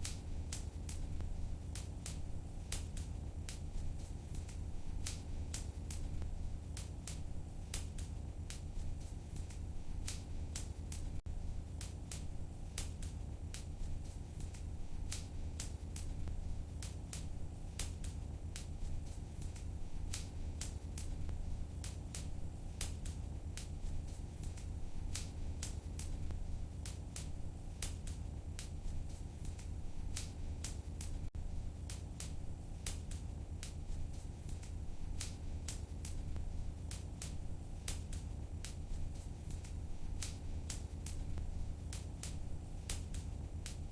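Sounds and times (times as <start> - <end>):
low rumble of burning fire: 0.0 - 43.9
wood fire crackling and popping: 0.0 - 43.9.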